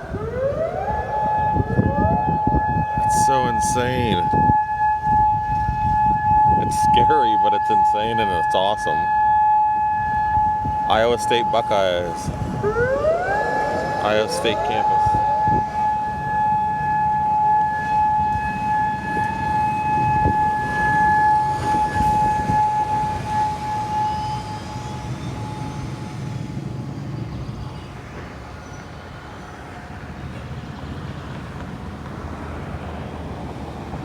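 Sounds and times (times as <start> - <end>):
warning siren steady tone: 0.0 - 27.5
road traffic rumble: 0.0 - 34.0.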